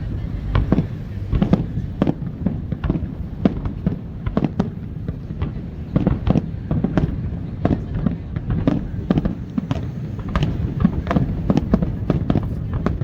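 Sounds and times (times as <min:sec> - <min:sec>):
continuous low rumble: 0:00.0 - 0:13.0
fireworks bursting with sharp bangs: 0:00.0 - 0:13.0.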